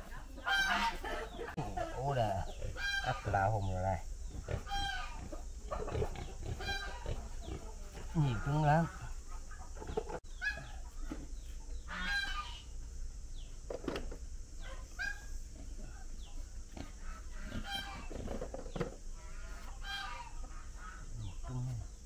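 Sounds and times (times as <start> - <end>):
poultry squawking and honking: 0.0 - 11.1, 11.7 - 12.8, 14.6 - 22.0
low steady hum: 0.0 - 22.0.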